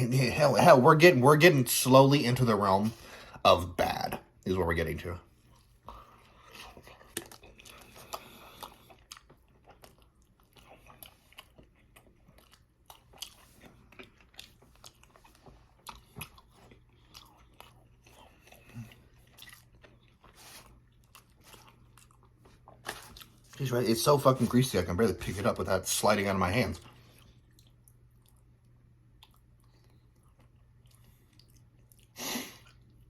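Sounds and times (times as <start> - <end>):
chewing burger: 5.3 - 25.6, 26.7 - 33.0.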